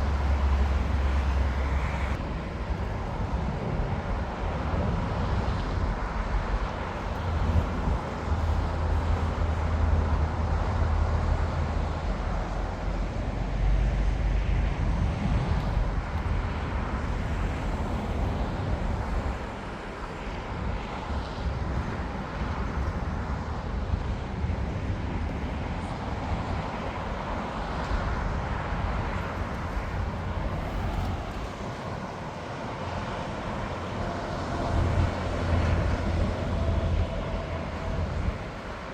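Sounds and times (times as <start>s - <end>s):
jet airliner engines running: 0.0s - 38.9s.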